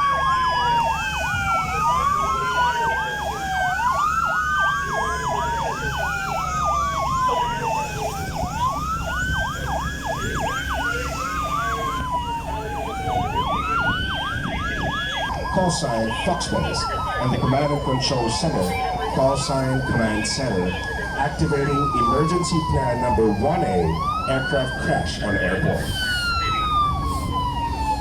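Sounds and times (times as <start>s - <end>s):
low engine rumble: 0.0s - 28.0s
siren wailing: 0.0s - 28.0s
siren yelping: 0.0s - 28.0s.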